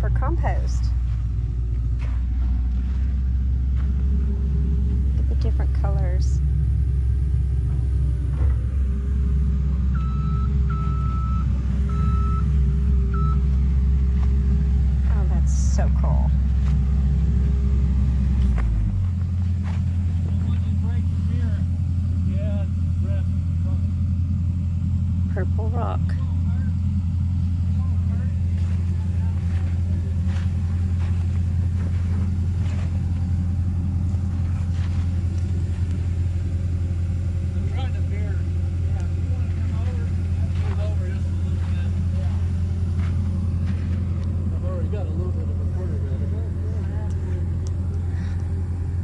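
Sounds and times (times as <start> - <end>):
heavy engine rumbling: 0.0 - 49.0.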